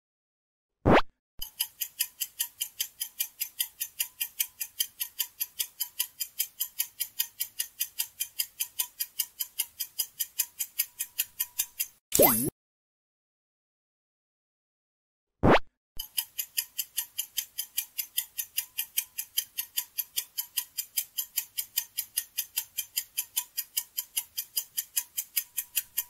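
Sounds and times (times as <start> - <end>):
clock ticking: 1.4 - 12.5, 16.0 - 26.0.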